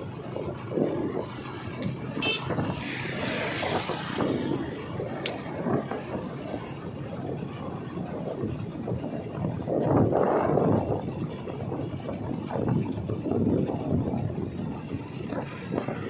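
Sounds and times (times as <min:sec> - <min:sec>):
motorbike engine rumble: 0:00.0 - 0:16.0
wind buffeting microphone: 0:00.0 - 0:16.0.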